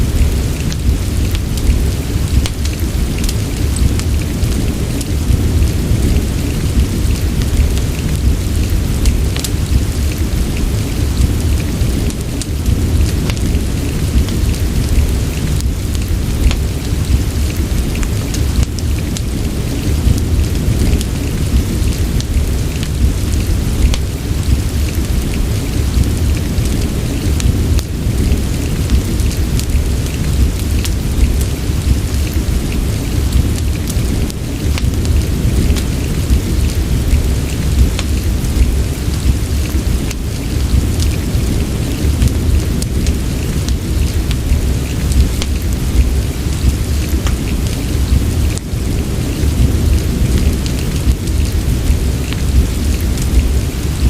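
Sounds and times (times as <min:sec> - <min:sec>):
deep low rumble: 0:00.0 - 0:54.0
steady rain: 0:00.0 - 0:54.0
wood fire crackling: 0:00.0 - 0:54.0.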